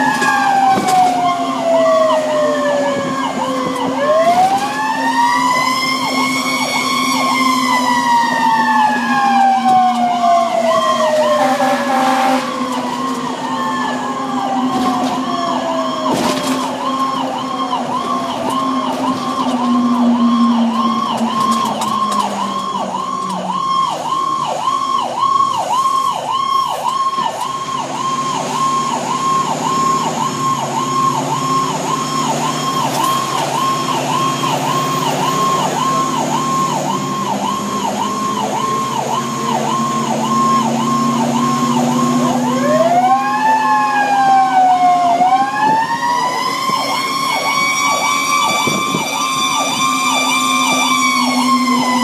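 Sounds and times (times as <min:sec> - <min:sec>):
fire engine siren sweeping: 0:00.0 - 0:52.0
second siren wailing: 0:00.0 - 0:52.0.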